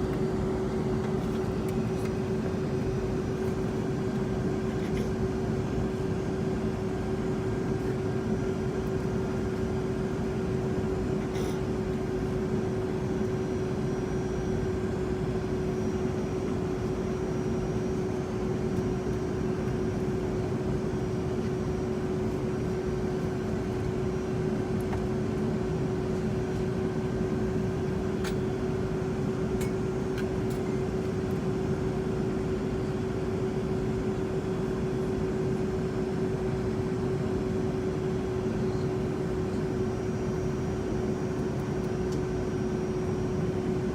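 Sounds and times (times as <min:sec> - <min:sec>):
jet engine drone: 0:00.0 - 0:43.9
mid-pitched hum: 0:00.0 - 0:43.9.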